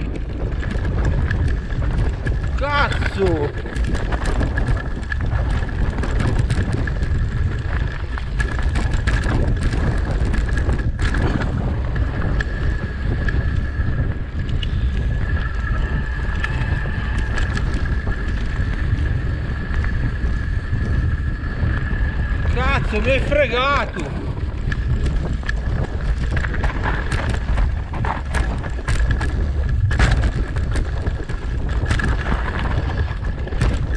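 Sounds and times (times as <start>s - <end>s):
bike knocking and rattling: 0.0s - 33.9s
tyres rumbling on dirt: 0.0s - 33.9s
wind buffeting the microphone: 0.0s - 33.9s.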